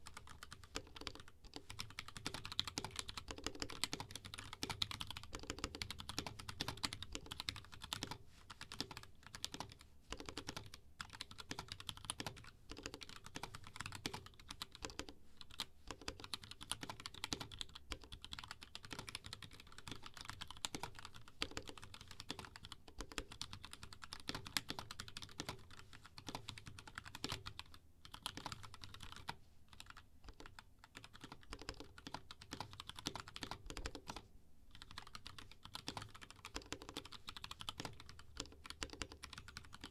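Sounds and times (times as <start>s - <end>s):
mechanical keyboard typing clacks: 0.1s - 34.2s, 34.8s - 39.9s.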